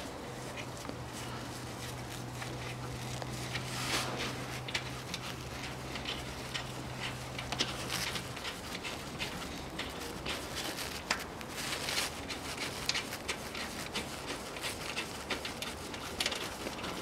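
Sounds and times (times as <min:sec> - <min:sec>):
small clicks and rustling: 0:00.0 - 0:17.0
steady low hum: 0:00.0 - 0:17.0.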